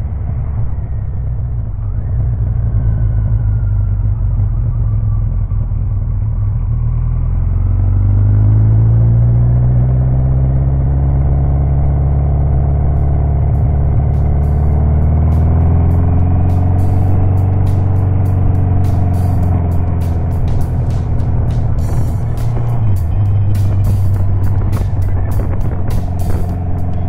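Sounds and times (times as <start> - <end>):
motorcycle engine rumbling and revving: 0.0 - 27.0.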